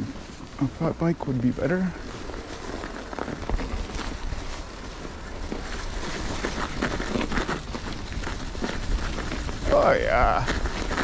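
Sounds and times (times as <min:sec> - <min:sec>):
bike tires crunching on snow: 0:00.0 - 0:11.0
clicks and rattles from bike: 0:02.0 - 0:11.0.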